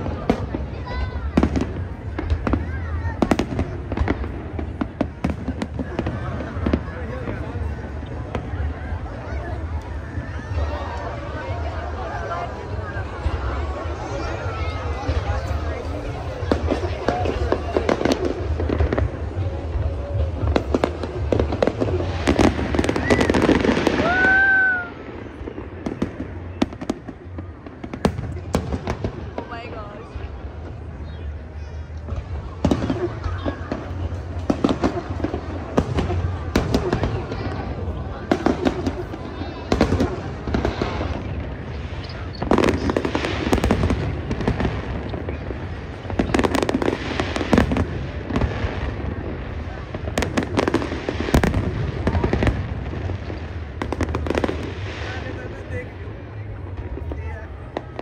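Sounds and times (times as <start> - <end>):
crowd voices: 0.0 - 58.0
fireworks bursting and crackling: 0.0 - 58.0.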